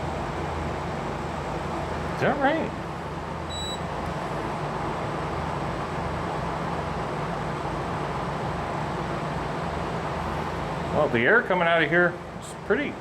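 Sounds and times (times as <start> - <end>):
air conditioner blowing air: 0.0 - 13.0.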